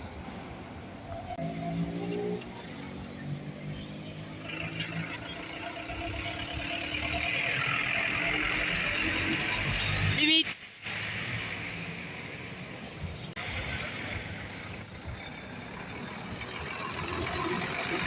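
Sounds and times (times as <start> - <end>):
bus engine humming: 0.0 - 18.0.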